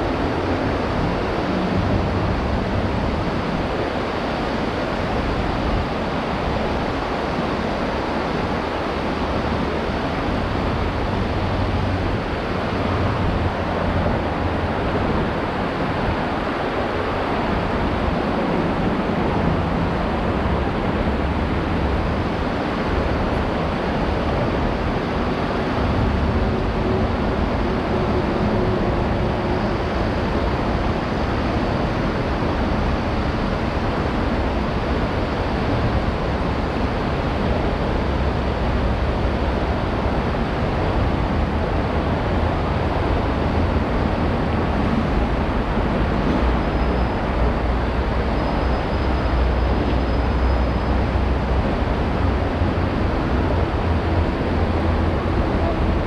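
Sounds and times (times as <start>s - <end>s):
low rumble of traffic: 0.0s - 56.0s
river water rushing over rapids: 0.0s - 56.0s.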